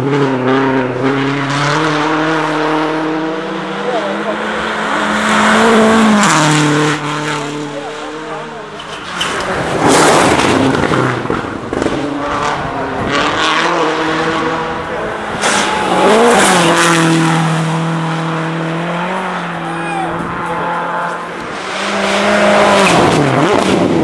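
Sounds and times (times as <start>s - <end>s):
rally cars passing revving: 0.0s - 24.0s.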